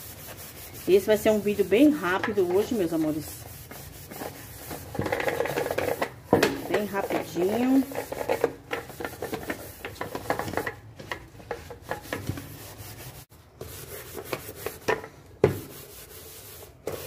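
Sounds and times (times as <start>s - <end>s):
steel wool scrubbing metal pot: 0.0s - 15.0s.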